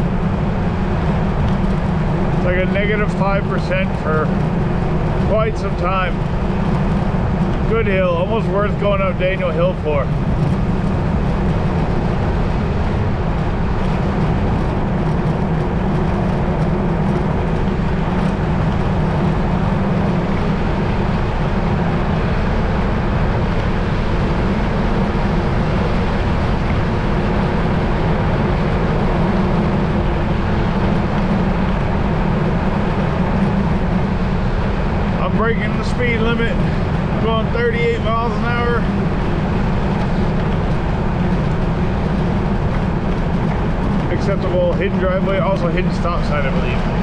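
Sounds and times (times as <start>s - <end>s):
wind rushing over microphone: 0.0s - 47.0s.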